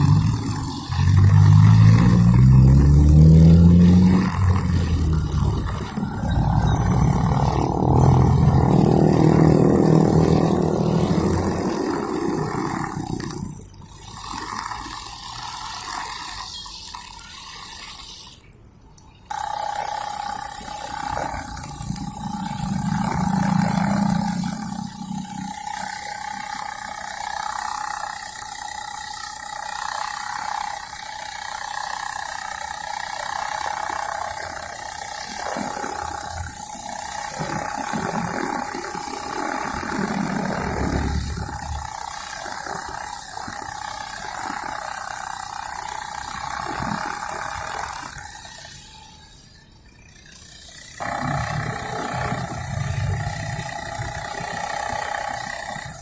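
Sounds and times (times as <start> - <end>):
brush cutter running: 0.0 - 17.8, 19.3 - 49.2, 50.3 - 56.0
whine of spinning line: 0.0 - 18.4, 19.3 - 56.0.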